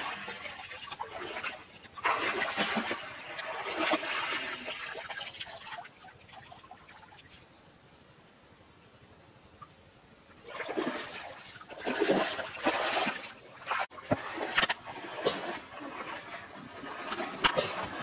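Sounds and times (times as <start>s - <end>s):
water splashing and pouring: 0.0s - 7.4s, 10.4s - 18.0s.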